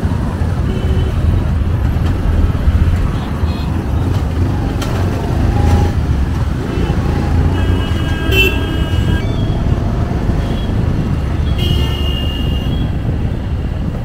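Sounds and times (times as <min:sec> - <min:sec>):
motorbike engine and wind rumble: 0:00.0 - 0:14.0.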